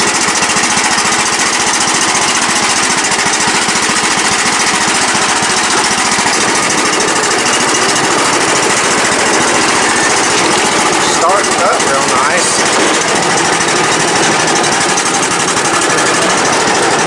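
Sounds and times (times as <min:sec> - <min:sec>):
mower engine running: 0:00.0 - 0:17.0.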